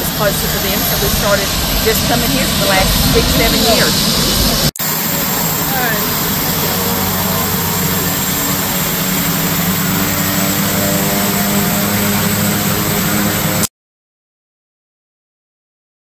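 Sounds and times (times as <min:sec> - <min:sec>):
plane engine droning: 0:00.0 - 0:13.7.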